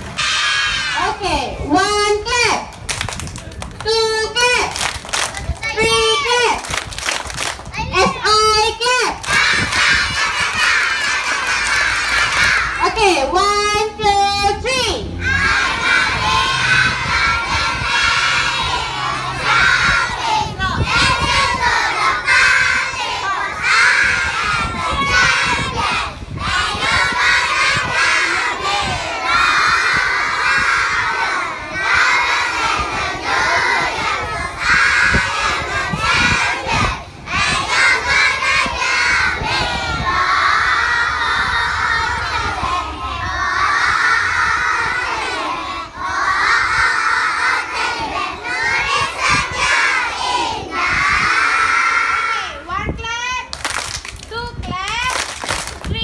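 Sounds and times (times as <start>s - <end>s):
children shouting and singing: 5.4s - 6.7s, 7.6s - 12.9s, 14.6s - 53.5s.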